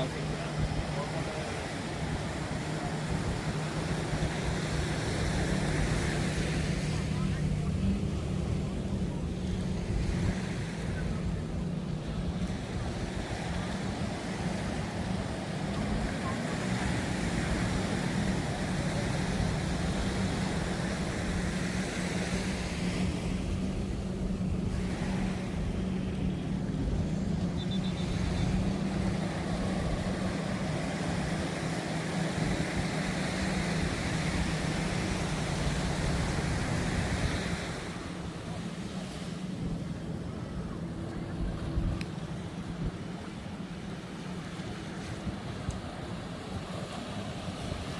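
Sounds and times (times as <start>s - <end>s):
low engine hum: 0.0s - 47.9s
surf: 0.0s - 47.9s
wind: 0.0s - 47.9s.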